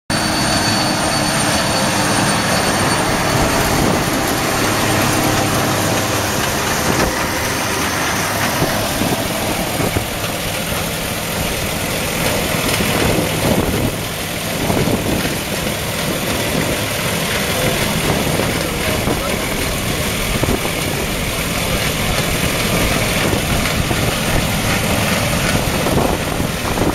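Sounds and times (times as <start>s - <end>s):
baler machinery running: 0.1s - 26.9s
tractor diesel engine running: 0.1s - 26.9s.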